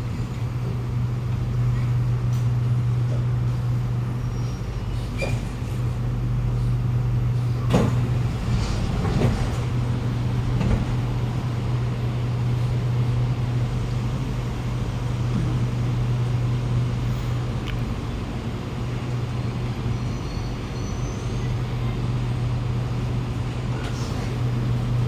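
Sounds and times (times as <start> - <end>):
train equipment low hum: 0.0 - 25.0.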